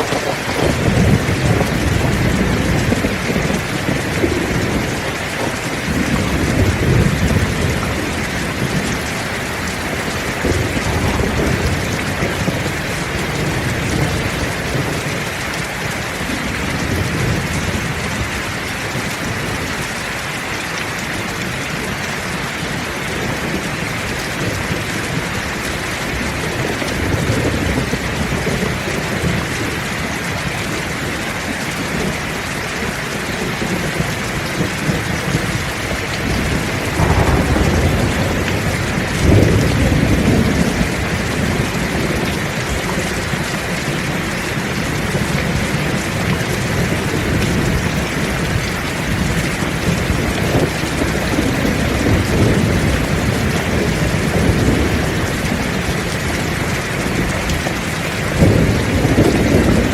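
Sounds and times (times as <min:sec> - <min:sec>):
thunder rumbling: 0:00.0 - 0:30.4, 0:31.1 - 0:59.9
heavy rain falling: 0:00.0 - 0:59.9.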